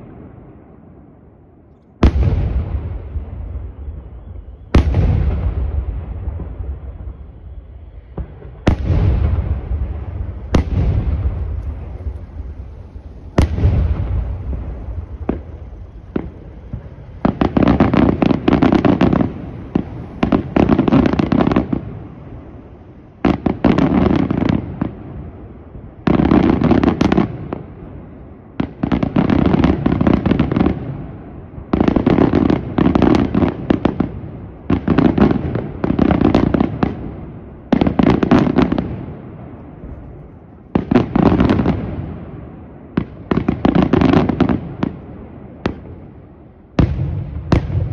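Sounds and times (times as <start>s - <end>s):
firework bangs with rumbling echo: 2.0s - 47.9s
firework crackling: 2.0s - 47.9s.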